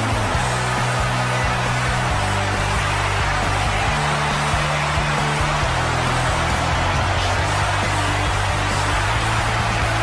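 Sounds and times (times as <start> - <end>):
crowd cheering: 0.0 - 10.0
rock song with bass and guitar: 0.0 - 10.0.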